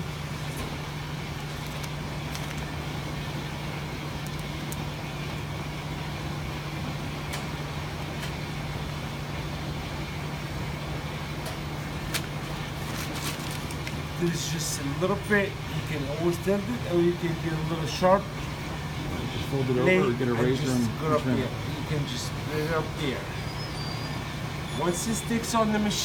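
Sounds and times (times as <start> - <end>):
laundry machines humming: 0.0 - 26.0.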